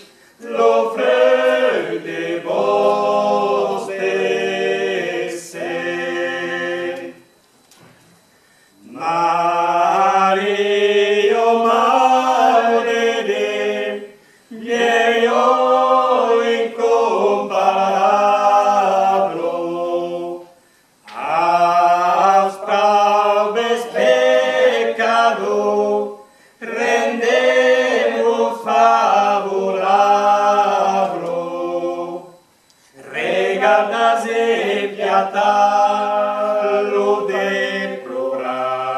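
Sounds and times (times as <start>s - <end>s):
group singing a cappella: 0.0s - 7.4s, 8.2s - 38.9s.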